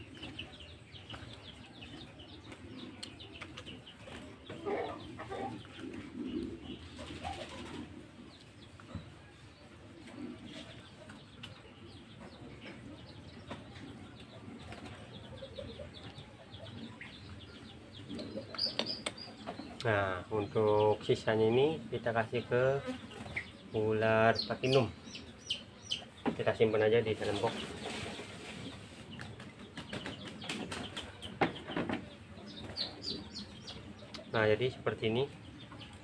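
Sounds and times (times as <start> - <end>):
birds chirping and cooing: 0.0 - 36.0.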